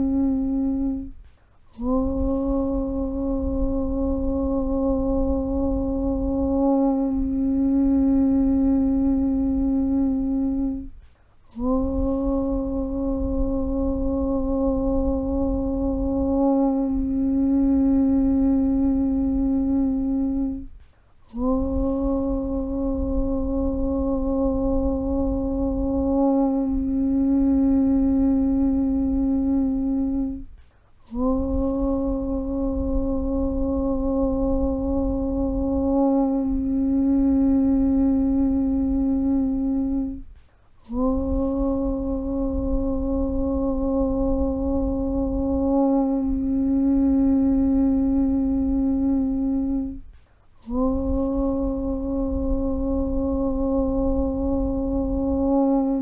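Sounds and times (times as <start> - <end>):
low rumble: 0.0 - 11.0, 11.6 - 20.8, 21.4 - 56.0
person chanting om: 0.0 - 56.0.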